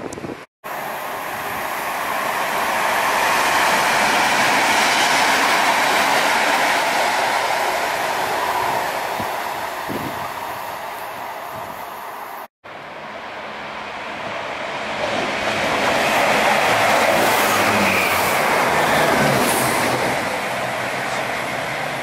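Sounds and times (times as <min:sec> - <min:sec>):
diesel train passing: 0:00.6 - 0:22.0.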